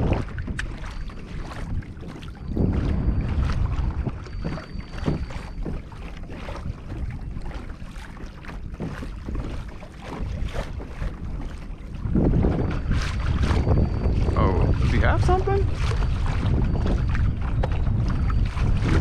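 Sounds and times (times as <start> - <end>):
water lapping against hull: 0.0 - 19.0
wind buffeting microphone: 0.0 - 19.0.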